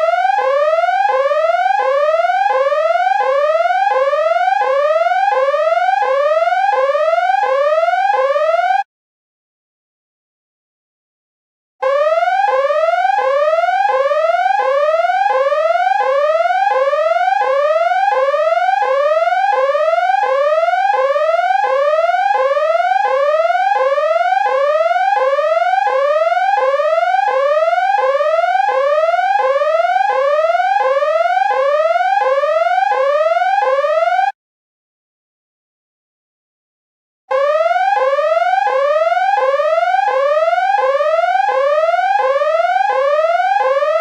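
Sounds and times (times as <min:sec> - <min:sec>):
siren whooping: 0:00.0 - 0:08.8, 0:11.8 - 0:34.3, 0:37.3 - 0:44.0.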